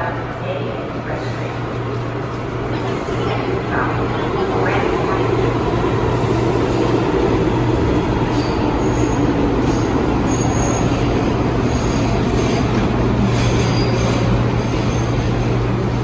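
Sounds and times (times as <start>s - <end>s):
subway train rumbling: 0.0s - 16.0s.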